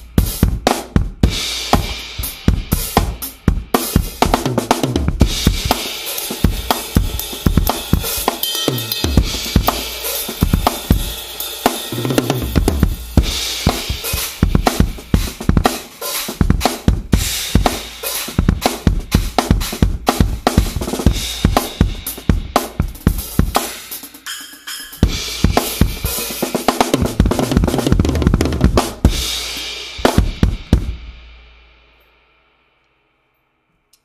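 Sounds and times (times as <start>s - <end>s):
crash and ride cymbals: 0.0s - 28.0s, 28.8s - 32.6s
drums: 0.0s - 32.8s.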